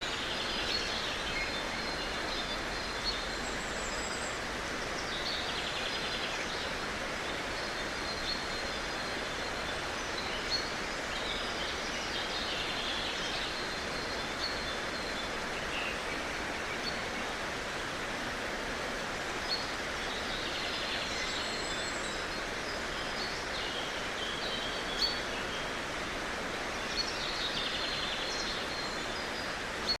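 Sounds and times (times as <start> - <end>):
steady rushing hiss: 0.0 - 29.9
songbirds chirping: 0.0 - 30.0.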